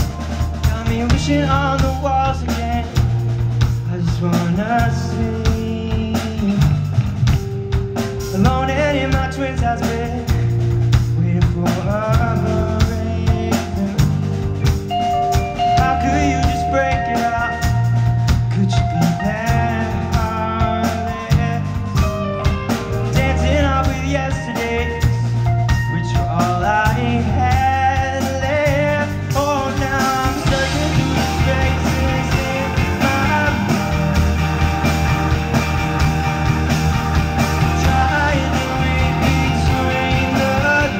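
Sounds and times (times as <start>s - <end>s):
drum kit: 0.0s - 40.9s
electric bass: 0.0s - 40.9s
electric guitars: 0.0s - 40.9s
keyboard: 0.0s - 40.9s.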